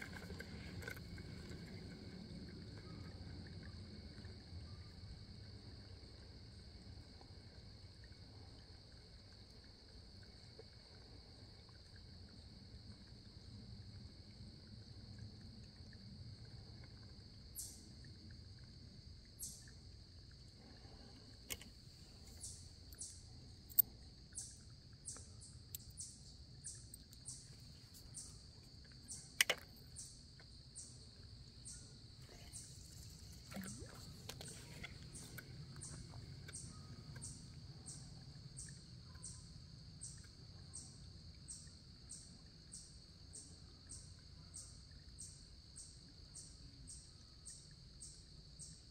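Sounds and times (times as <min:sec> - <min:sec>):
high insect chirp: 0:00.0 - 0:48.9.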